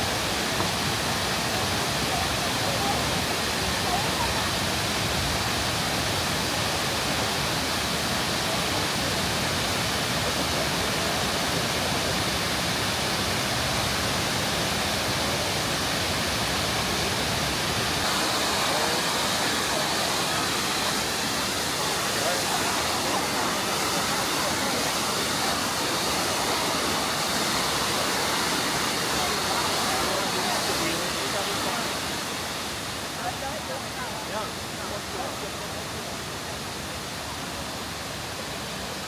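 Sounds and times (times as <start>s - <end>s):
waterfall roaring: 0.0s - 39.0s.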